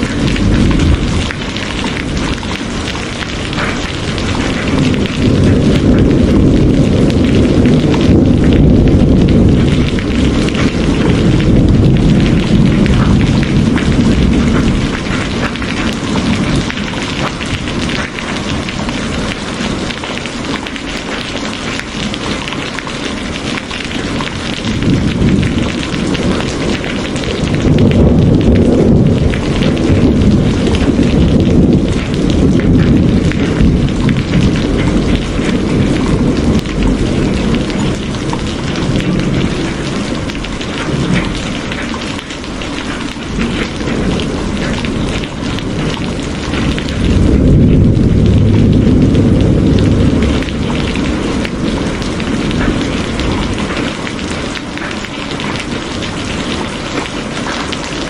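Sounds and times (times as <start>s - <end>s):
heavy rain falling: 0.0s - 58.0s
rolling thunder: 0.0s - 58.0s.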